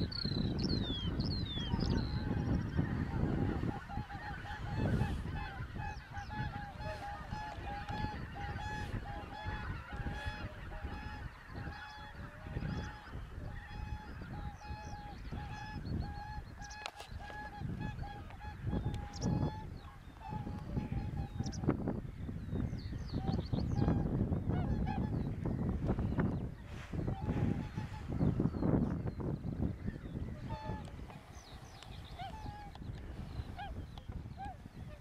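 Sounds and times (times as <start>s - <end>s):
geese honking: 0.8s - 21.9s, 22.9s - 35.0s.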